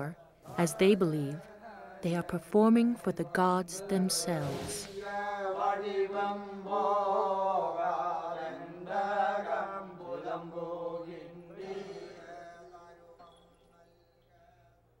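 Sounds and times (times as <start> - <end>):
person chanting: 0.0 - 13.4.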